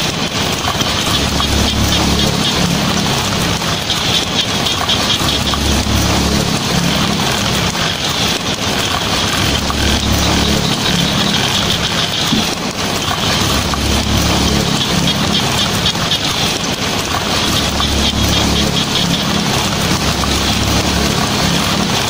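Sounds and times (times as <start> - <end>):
heavy rain on a tin roof: 0.0 - 22.0.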